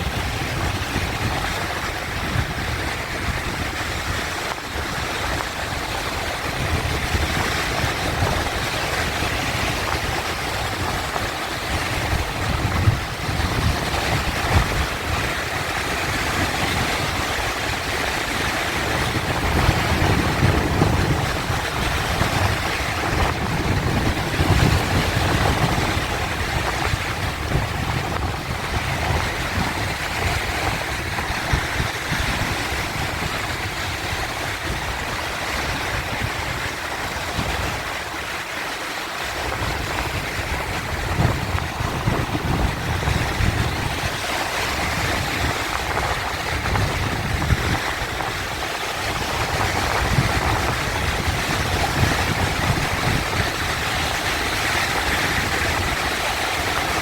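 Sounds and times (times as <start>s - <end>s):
sea waves surging: 0.0s - 57.0s.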